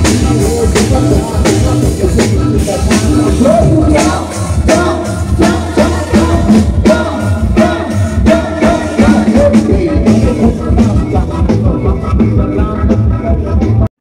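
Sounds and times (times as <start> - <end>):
heavy bass line: 0.0 - 13.9
upbeat music with drum beat: 0.0 - 13.9.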